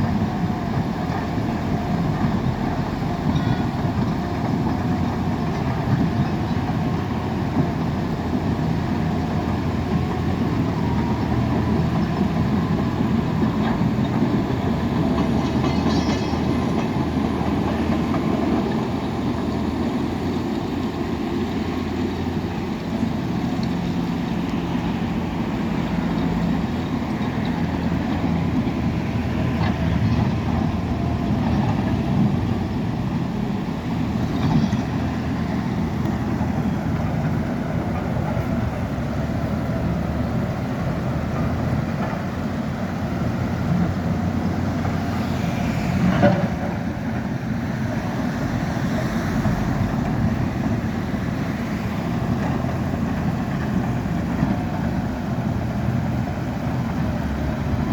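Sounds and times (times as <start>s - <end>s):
heavy machinery diesel engines: 0.0s - 57.9s.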